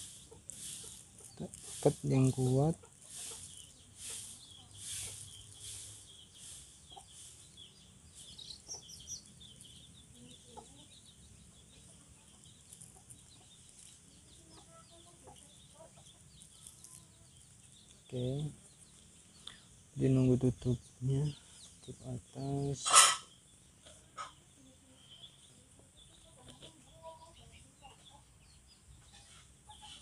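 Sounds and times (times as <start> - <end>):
chickens clucking: 0.0 - 30.0
small chirps: 0.0 - 30.0.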